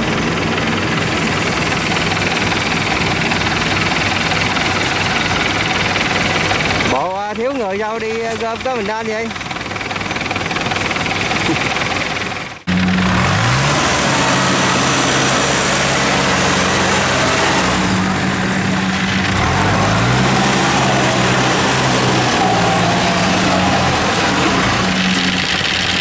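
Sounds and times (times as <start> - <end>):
tracked vehicle engine running: 0.0 - 26.0.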